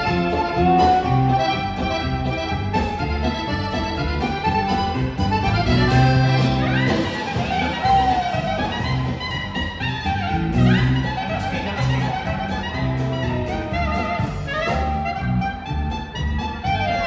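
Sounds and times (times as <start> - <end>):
accordions: 0.0 - 17.0
live dance band playing: 0.0 - 17.0.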